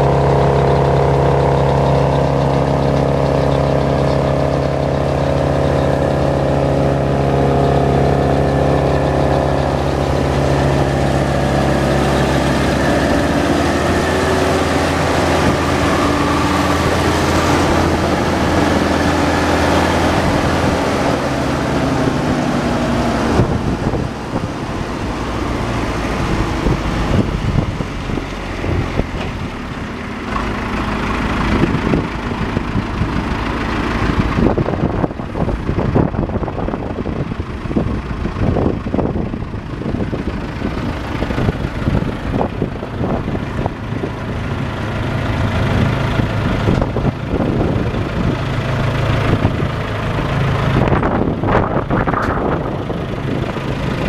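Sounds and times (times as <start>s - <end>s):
wood chipper engine running: 0.0s - 54.0s.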